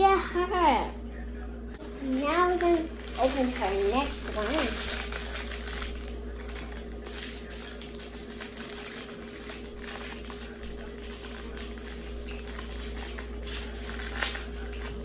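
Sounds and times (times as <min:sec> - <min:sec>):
low electrical hum: 0:00.0 - 0:15.0
plastic packaging crinkling: 0:01.8 - 0:15.0.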